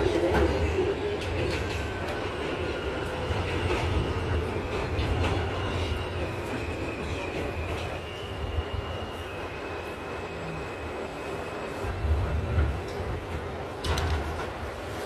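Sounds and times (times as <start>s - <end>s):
subway car rumble in tunnel: 0.0s - 15.0s.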